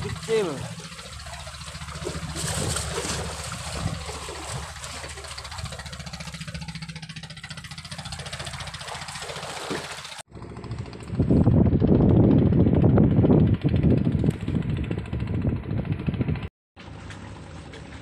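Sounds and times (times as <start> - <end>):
engine chugging: 0.0 - 18.0.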